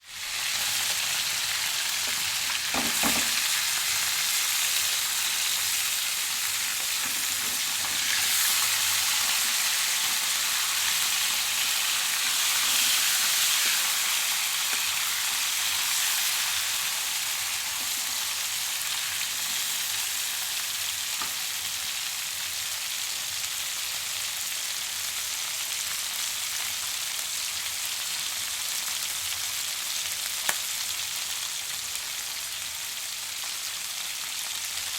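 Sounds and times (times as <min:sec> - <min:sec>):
food sizzling in a frying pan: 0:00.0 - 0:34.9.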